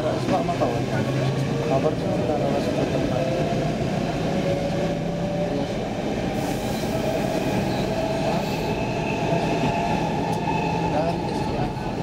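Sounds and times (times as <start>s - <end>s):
metro train rumbling on track: 0.0s - 12.0s.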